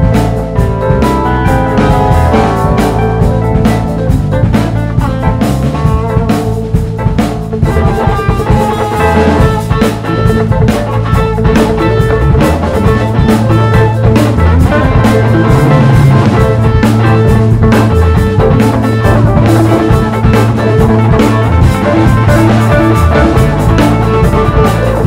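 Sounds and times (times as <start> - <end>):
drum kit beat: 0.0 - 25.0
live rock band playing: 0.0 - 25.0.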